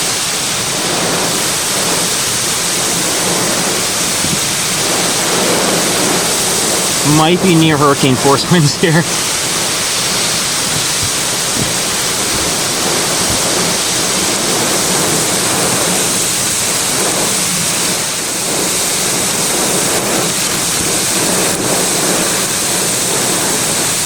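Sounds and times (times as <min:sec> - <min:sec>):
driving rain: 0:00.0 - 0:24.0
wind gusts: 0:00.0 - 0:24.0.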